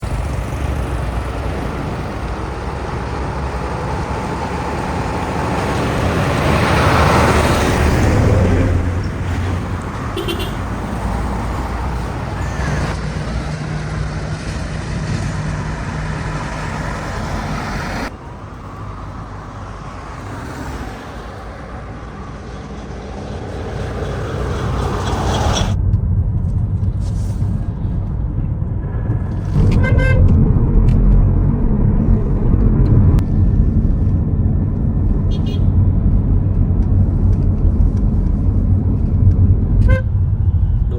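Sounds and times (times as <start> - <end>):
road traffic rumble: 0.0 - 40.9
vehicle passing: 0.0 - 40.9.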